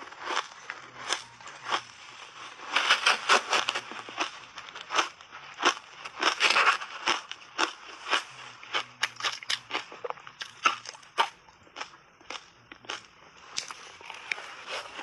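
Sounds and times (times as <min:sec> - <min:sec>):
chewing ice crunches: 0:00.0 - 0:15.0.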